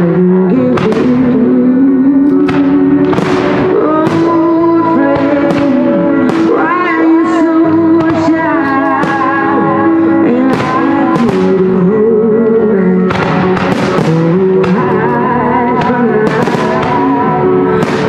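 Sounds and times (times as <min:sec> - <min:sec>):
loud music with singing: 0:00.0 - 0:18.0
fireworks bursting with sharp cracks: 0:00.5 - 0:01.6, 0:02.2 - 0:11.9, 0:13.0 - 0:18.0.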